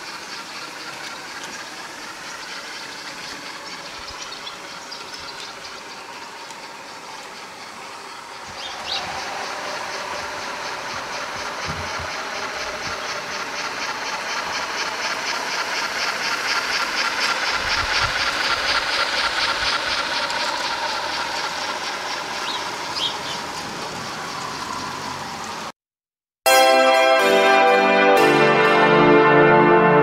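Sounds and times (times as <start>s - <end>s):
model steam train running on track: 0.0s - 25.7s.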